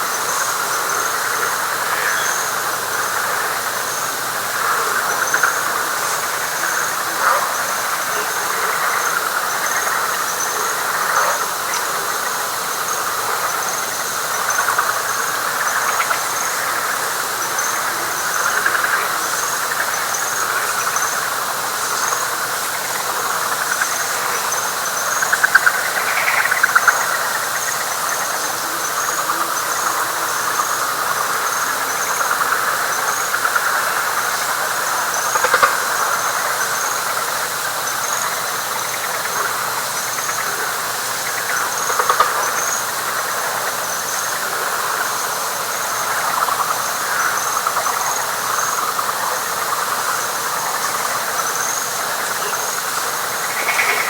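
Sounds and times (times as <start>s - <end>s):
frogs trilling: 0.0s - 54.0s
insect chirping: 0.0s - 54.0s.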